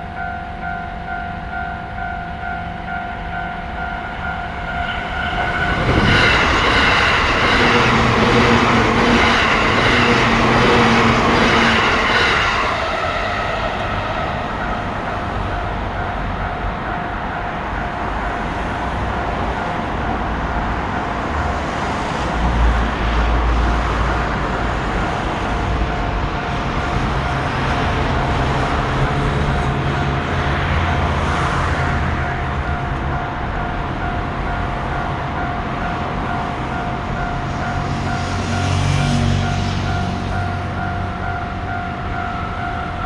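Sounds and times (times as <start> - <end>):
passing train rumble: 0.0 - 43.0
railroad crossing bell ringing: 0.0 - 43.0.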